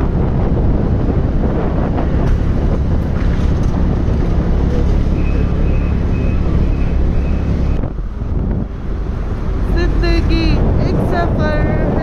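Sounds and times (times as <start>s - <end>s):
motorbike engine: 0.0s - 12.0s
road noise: 0.0s - 12.0s
wind rumble on microphone: 0.0s - 12.0s.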